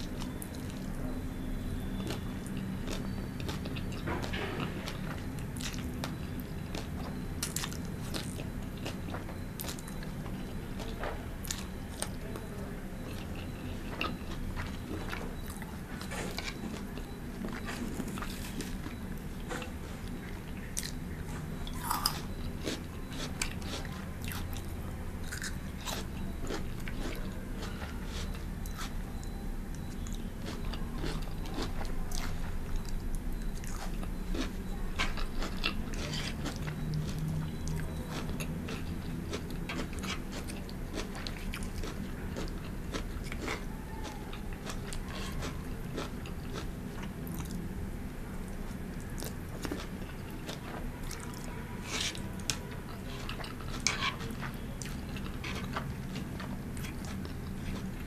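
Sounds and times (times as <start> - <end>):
chewing with crunches: 0.0 - 58.0.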